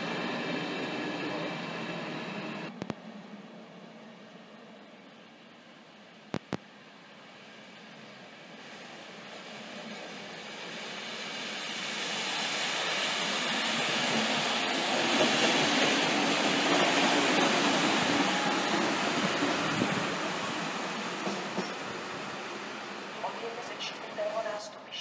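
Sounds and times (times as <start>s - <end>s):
passenger train rolling past: 0.0s - 25.0s.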